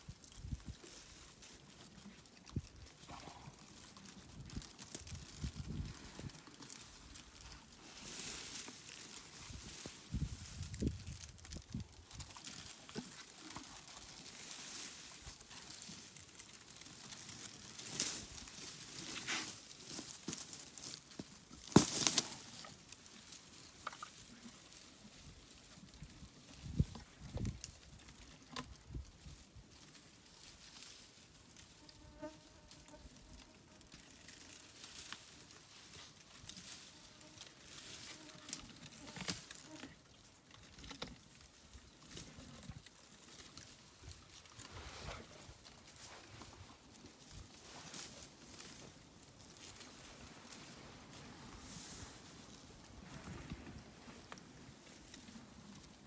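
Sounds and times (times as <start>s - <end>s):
rustling and crackling: 0.0s - 56.0s.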